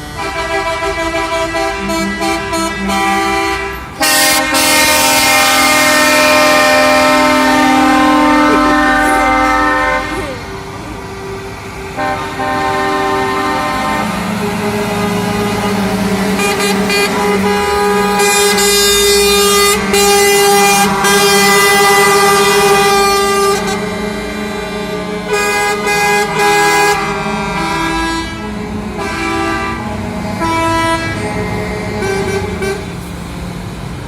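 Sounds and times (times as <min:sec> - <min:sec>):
truck air horns: 0:00.0 - 0:33.4
truck engines rumbling: 0:00.0 - 0:34.0.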